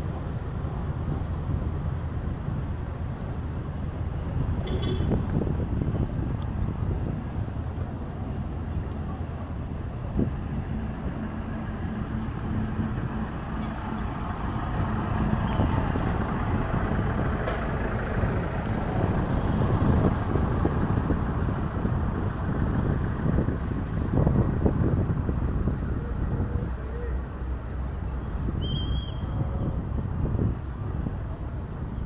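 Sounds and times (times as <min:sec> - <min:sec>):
road roller diesel engines rumbling: 0:00.0 - 0:32.0.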